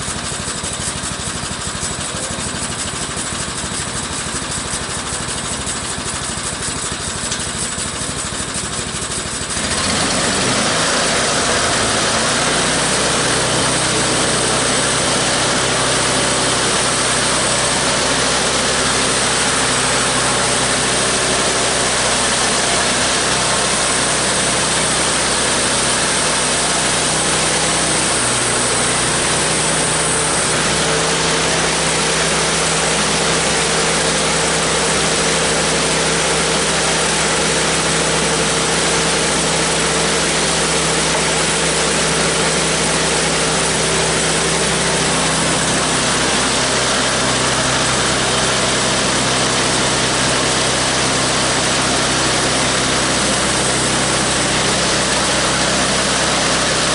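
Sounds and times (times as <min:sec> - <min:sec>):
sawmill engine running under load: 0:00.0 - 0:56.9
band blade cutting log: 0:02.8 - 0:56.9.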